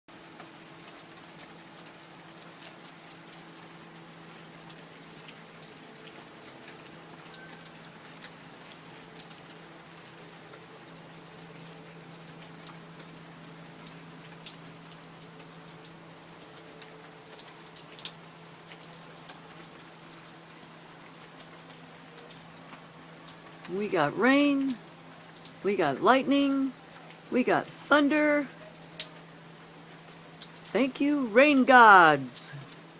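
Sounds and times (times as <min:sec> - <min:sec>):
raindrops tapping close by: 0:00.1 - 0:32.9
steady rain falling: 0:00.1 - 0:32.9.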